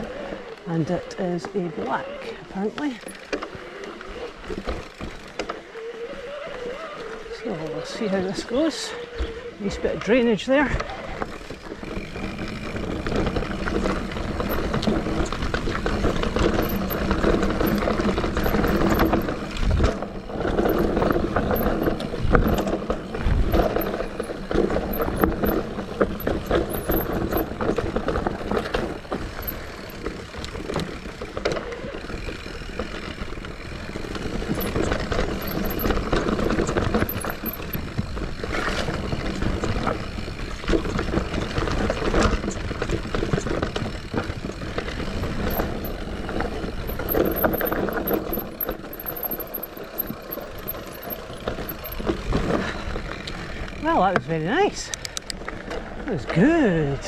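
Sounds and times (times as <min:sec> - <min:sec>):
bike knocking and rattling: 0:00.0 - 0:56.6
bike tyres rumbling over dirt: 0:00.0 - 0:57.0.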